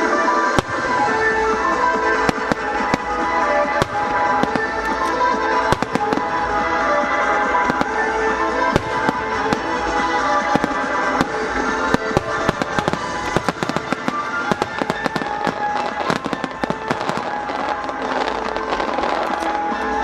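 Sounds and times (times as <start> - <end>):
music playing: 0.0 - 20.0
firework shells bursting: 0.6 - 20.0.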